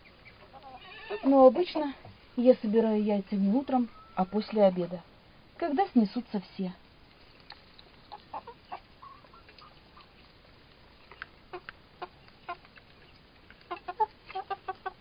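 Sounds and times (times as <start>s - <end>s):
hens clucking: 0.0s - 1.9s, 2.6s - 5.0s, 7.1s - 15.0s.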